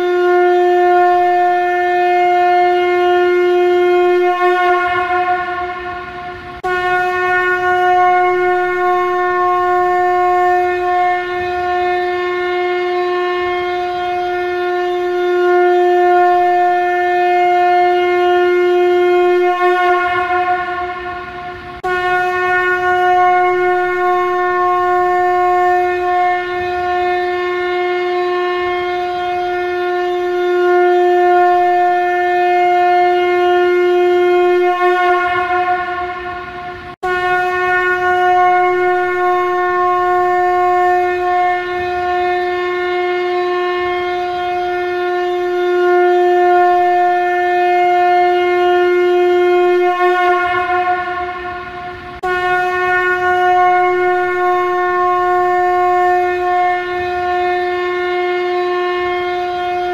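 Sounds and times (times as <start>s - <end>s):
conch shell blasts: 0.0s - 59.9s.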